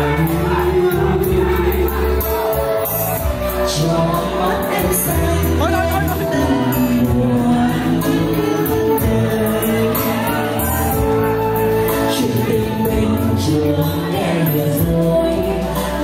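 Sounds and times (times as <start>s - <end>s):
instrumental music with bass: 0.0s - 16.0s
person singing: 0.0s - 16.0s.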